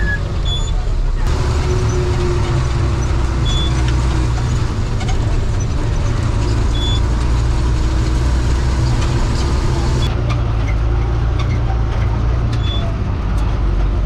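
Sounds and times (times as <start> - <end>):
bus engine rumbling: 0.0 - 14.0
road noise: 0.0 - 14.0.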